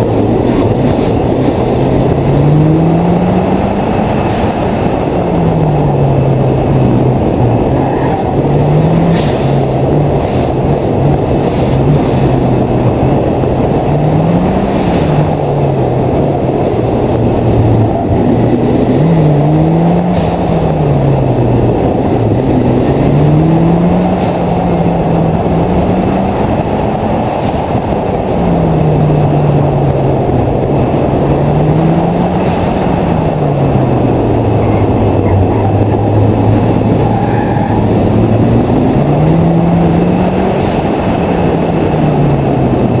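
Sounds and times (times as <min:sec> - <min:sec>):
car engine revving hard: 0:00.0 - 0:43.0
heavy rushing noise: 0:00.0 - 0:43.0.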